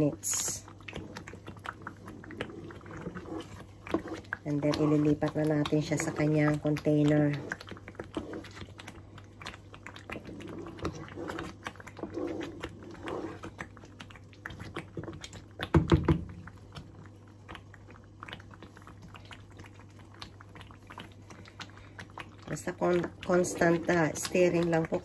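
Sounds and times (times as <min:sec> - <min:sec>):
wooden spoon stirring thick paste: 0:00.0 - 0:25.0.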